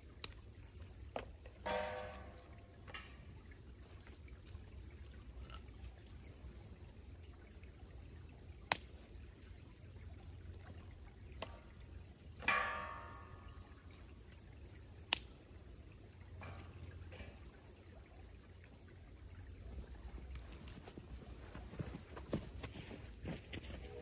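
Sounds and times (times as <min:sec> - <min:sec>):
creek water trickling: 0:00.0 - 0:24.0.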